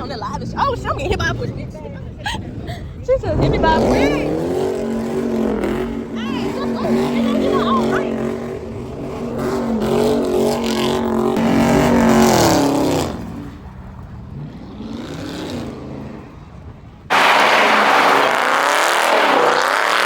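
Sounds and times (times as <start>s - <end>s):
street noise: 0.0s - 20.0s
car engine revving: 2.4s - 20.0s.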